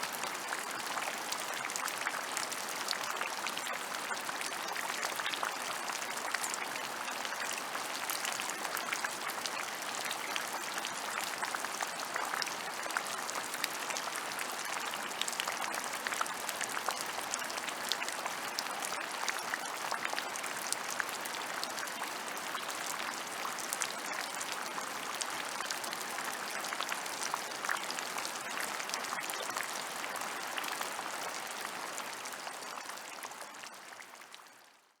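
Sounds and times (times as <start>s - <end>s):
steady rain falling: 0.0s - 34.7s.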